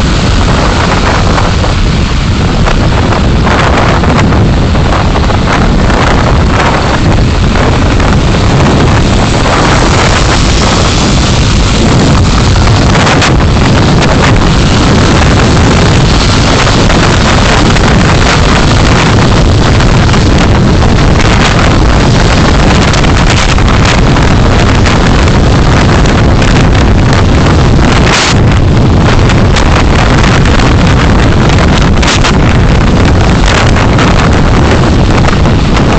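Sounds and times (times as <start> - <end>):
car road and wind noise: 0.0 - 35.9.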